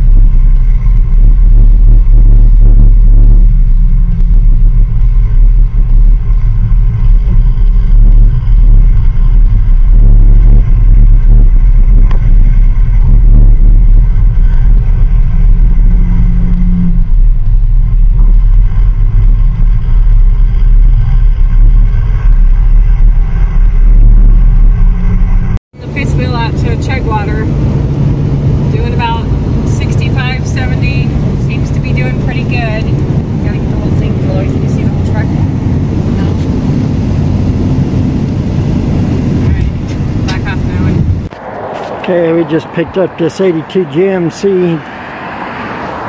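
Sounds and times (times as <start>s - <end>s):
road noise from towed trailer: 0.0s - 46.0s
wind noise: 0.0s - 46.0s.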